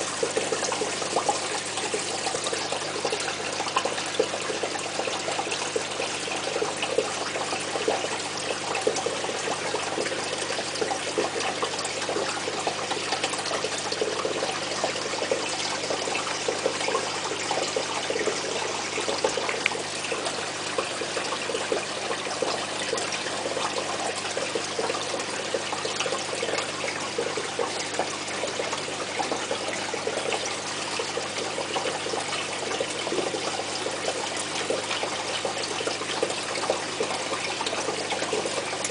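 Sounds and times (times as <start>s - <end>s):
aquarium filter water trickling: 0.0s - 38.9s.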